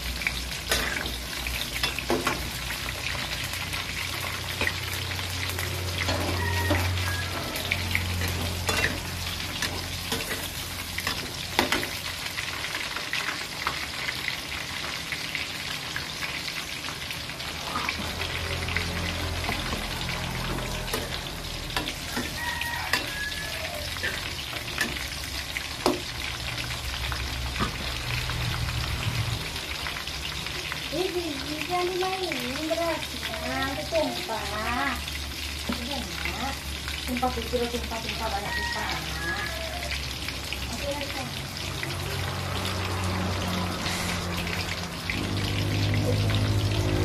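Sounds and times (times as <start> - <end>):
vegetables sizzling in a wok: 0.0 - 47.0.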